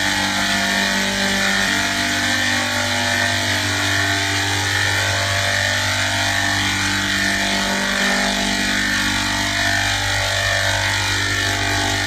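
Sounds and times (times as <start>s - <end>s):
steady machine drone: 0.0s - 12.0s.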